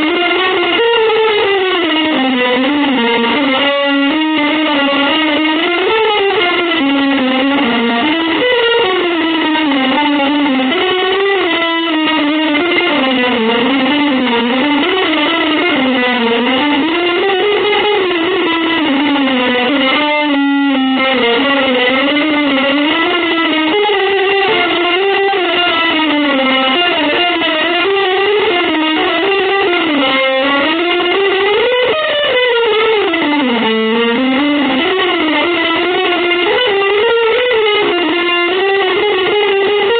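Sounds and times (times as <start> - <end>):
electric guitar legato melody: 0.0 - 39.9.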